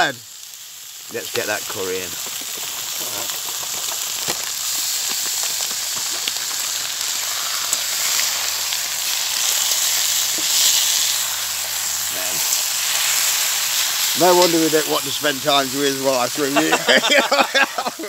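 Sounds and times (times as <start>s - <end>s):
stir fry sizzling in a pan: 0.0s - 18.0s.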